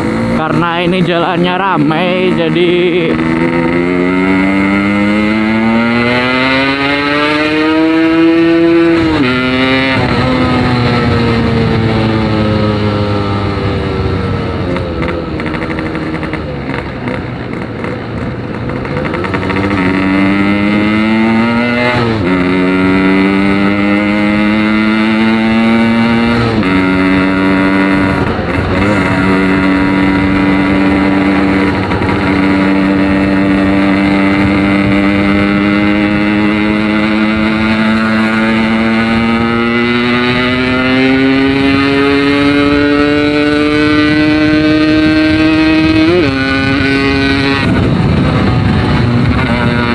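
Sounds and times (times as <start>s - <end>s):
two-stroke motorcycle engine revving: 0.0s - 49.9s.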